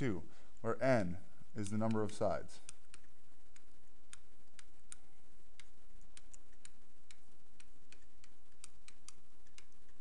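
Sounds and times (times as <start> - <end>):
steady low hum: 0.0 - 10.0
stylus tapping on tablet: 1.6 - 10.0.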